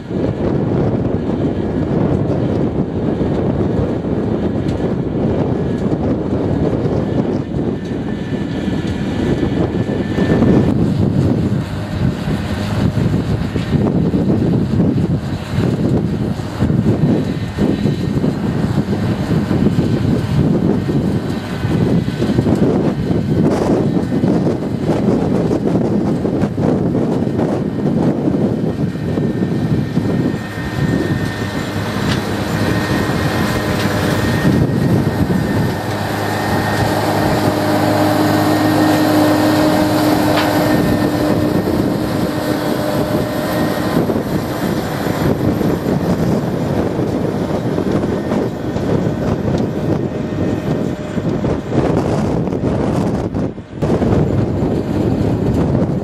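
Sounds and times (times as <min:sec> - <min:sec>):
tractor engine under load: 0:00.0 - 0:56.0
wind on microphone: 0:00.0 - 0:56.0.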